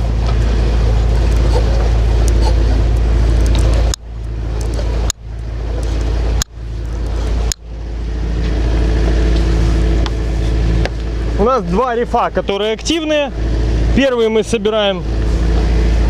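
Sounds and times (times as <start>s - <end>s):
electric winch humming: 0.0s - 16.0s.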